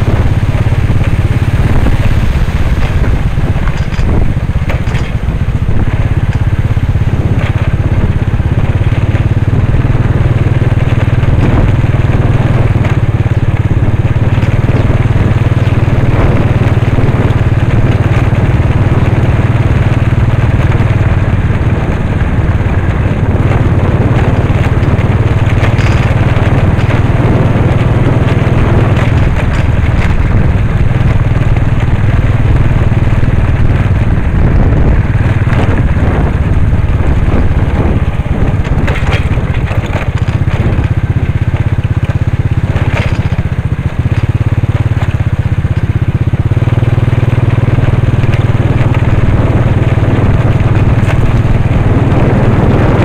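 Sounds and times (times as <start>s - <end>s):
motorcycle engine running: 0.0s - 53.0s
rattling and knocking from bumps: 0.0s - 53.0s.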